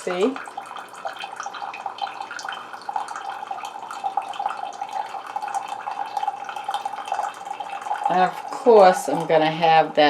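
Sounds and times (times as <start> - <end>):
coffee trickling into cup: 0.0 - 9.8.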